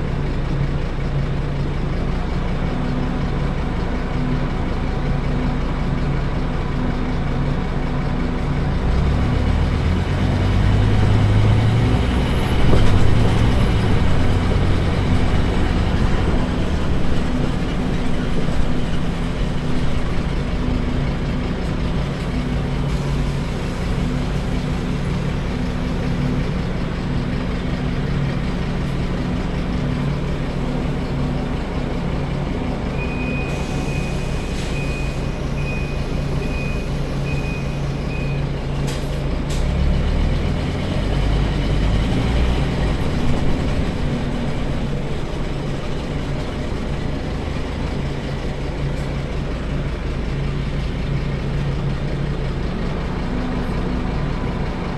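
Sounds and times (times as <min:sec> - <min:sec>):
bus diesel engine running: 0:00.0 - 0:54.9
deeper rumble: 0:01.8 - 0:33.1, 0:39.2 - 0:54.9.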